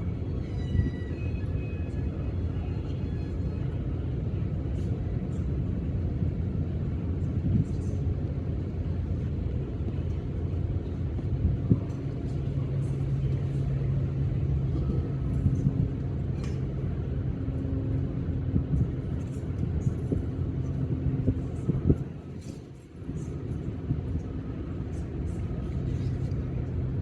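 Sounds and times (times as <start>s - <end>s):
engine rumbling: 3.7s - 27.0s.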